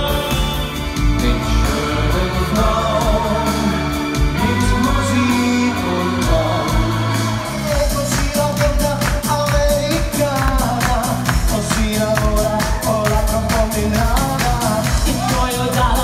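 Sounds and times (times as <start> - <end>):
guitar: 0.0 - 16.0
person singing: 0.0 - 16.0
steady beat: 0.0 - 16.0.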